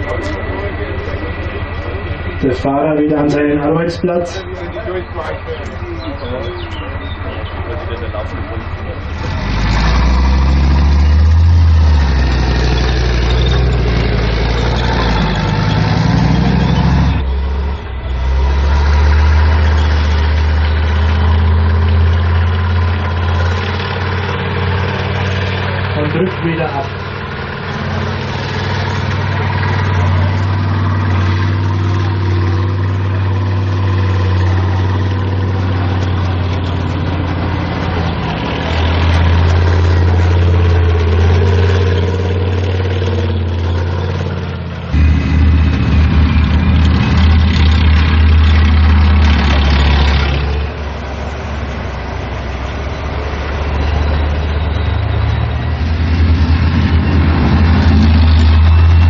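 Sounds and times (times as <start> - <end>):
tracked vehicle diesel engines: 0.0 - 59.0.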